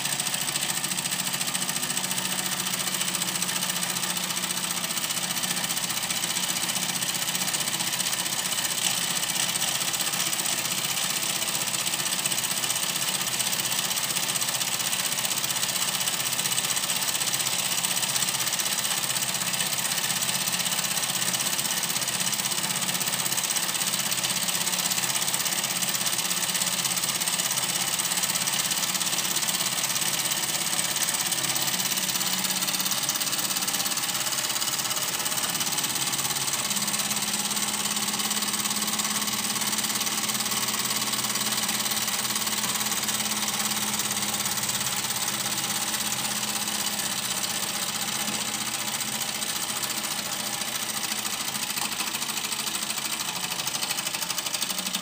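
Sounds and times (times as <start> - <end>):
toy steam engine clattering: 0.0 - 55.0.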